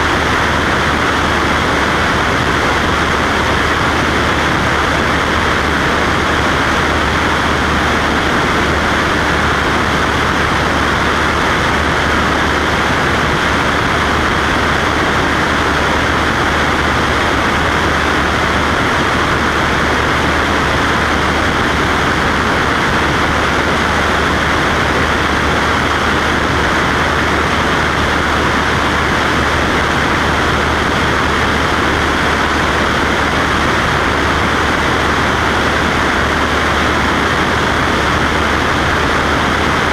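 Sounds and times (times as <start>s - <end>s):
plane engine and propeller: 0.0s - 39.9s.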